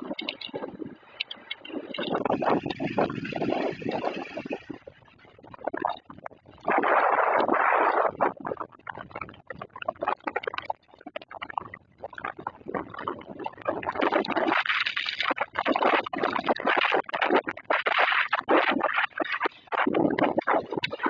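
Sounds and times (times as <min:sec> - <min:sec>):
gusting wind: 0:00.0 - 0:09.4, 0:12.3 - 0:21.0.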